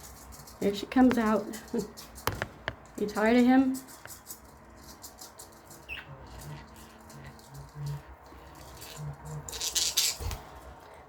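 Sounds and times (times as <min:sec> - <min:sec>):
budgies scratching and rustling: 0:00.0 - 0:10.8.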